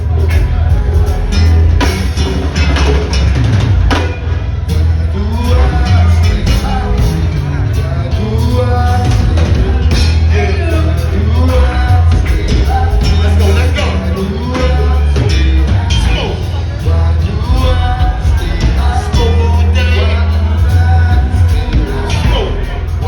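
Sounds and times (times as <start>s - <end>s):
live band playing: 0.0s - 23.0s
person singing: 0.0s - 23.0s.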